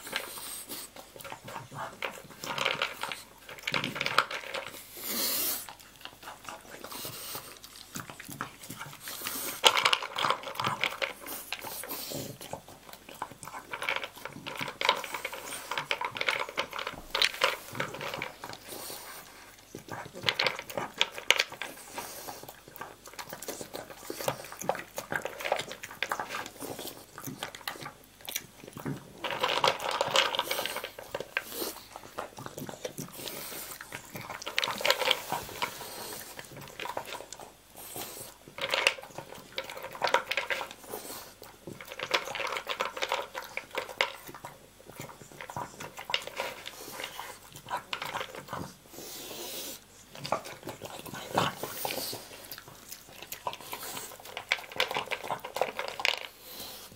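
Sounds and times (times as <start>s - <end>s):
dog crunching kibble: 0.0s - 56.9s.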